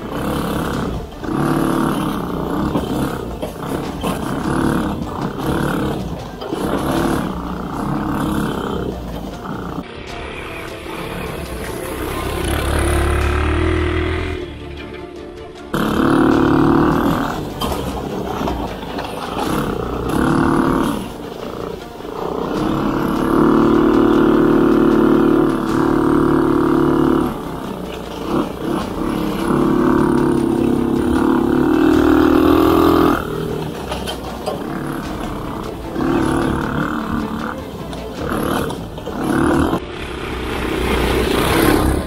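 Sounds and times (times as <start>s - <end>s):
small engine revving: 0.0s - 9.9s, 10.6s - 14.9s, 15.7s - 42.0s.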